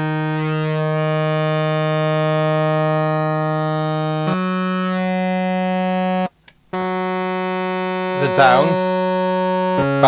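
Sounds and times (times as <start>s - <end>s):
sustained synthesizer note with flanger: 0.1s - 10.0s.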